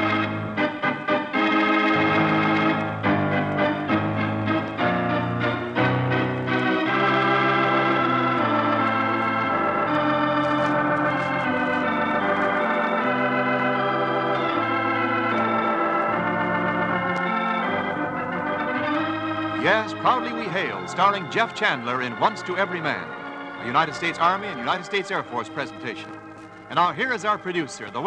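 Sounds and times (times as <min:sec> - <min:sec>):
organ music: 0:00.0 - 0:28.0.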